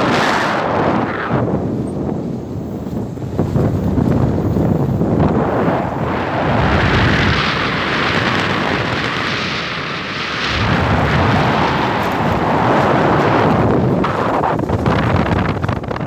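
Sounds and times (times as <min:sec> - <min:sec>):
wind rushing over microphone: 0:00.0 - 0:16.0
road rumble: 0:02.6 - 0:16.0.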